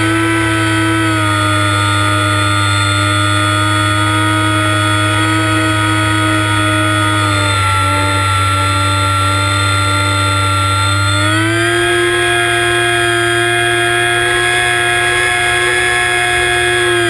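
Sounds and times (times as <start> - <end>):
electric motor and propeller whine: 0.0 - 17.0.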